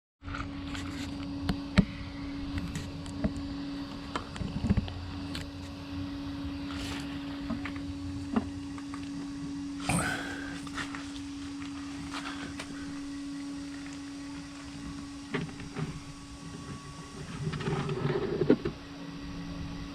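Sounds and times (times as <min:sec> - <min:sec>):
small electric motor humming: 0:00.3 - 0:19.9.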